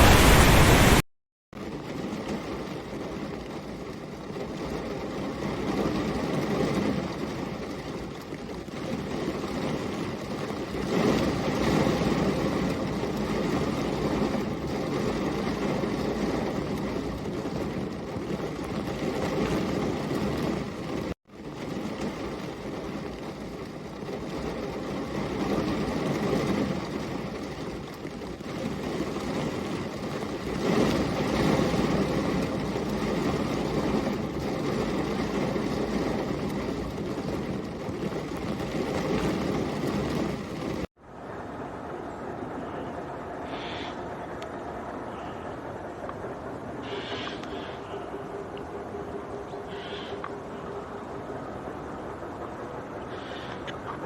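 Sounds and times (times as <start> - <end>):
steady rushing rain noise: 0.0 - 1.0, 1.6 - 54.0.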